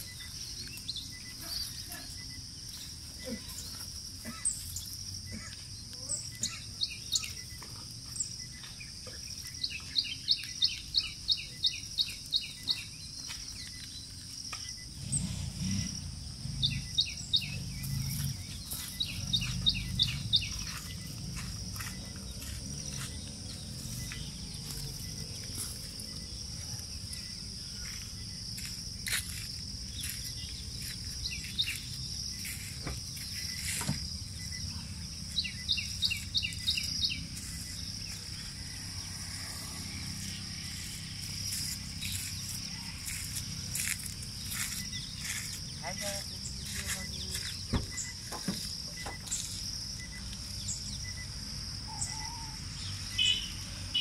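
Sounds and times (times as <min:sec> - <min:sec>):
bird chirping: 0:00.0 - 0:54.0
high insect drone: 0:00.0 - 0:54.0.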